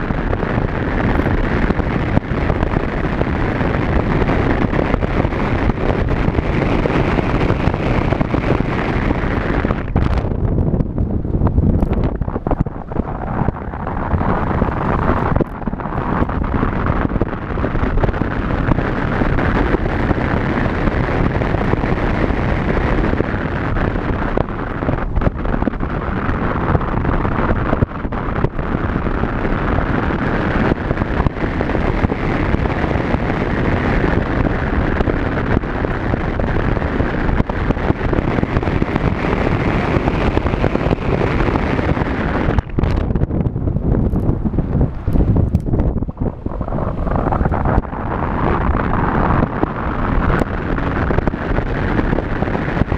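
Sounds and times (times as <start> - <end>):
car road noise: 0.0 - 52.9
wind buffeting microphone: 0.0 - 52.9.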